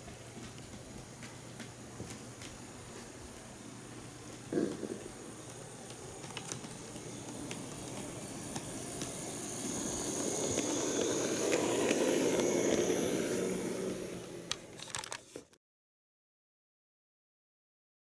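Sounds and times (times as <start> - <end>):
wheels clicking over rail joints: 0.0 - 15.5
model train motor whine: 0.8 - 15.6.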